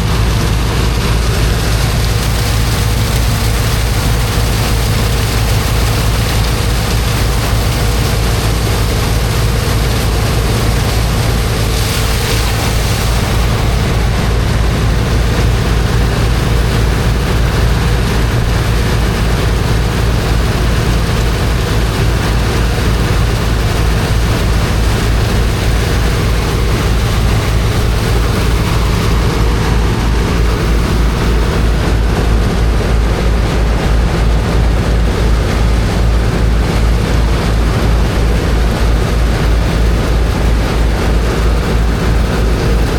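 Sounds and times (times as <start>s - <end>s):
water jet hissing: 0.0s - 40.6s
water pump engine throbbing: 0.0s - 42.9s.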